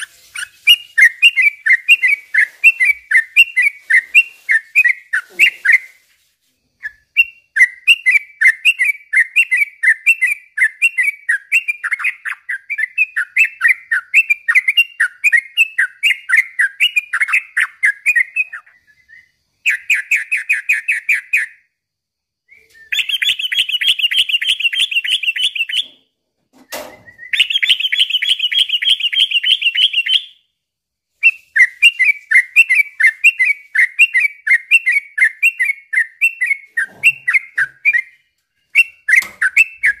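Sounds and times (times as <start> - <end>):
bird singing chirpy phrases: 0.0 - 6.0, 6.8 - 21.7, 22.6 - 25.9, 27.1 - 30.4, 31.2 - 40.0.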